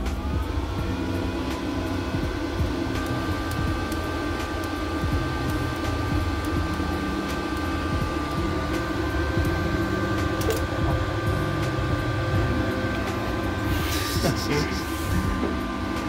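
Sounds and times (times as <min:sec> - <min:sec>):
welder electrical hum and hiss: 0:00.0 - 0:16.0.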